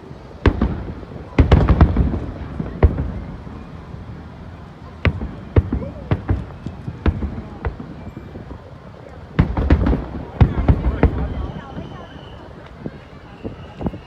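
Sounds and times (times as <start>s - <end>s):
fireworks bangs: 0.3s - 14.0s.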